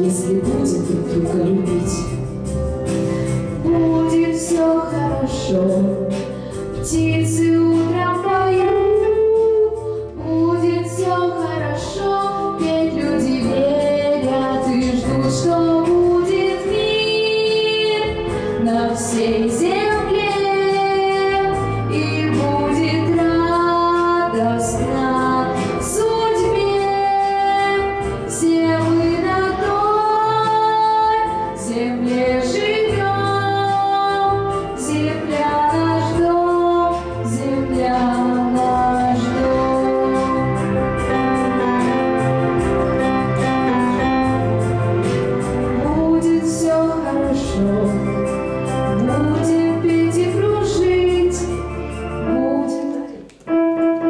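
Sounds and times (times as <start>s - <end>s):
girl singing into microphone: 0.0s - 2.2s, 3.6s - 41.0s, 45.8s - 54.0s
instrumental accompaniment: 0.0s - 54.0s.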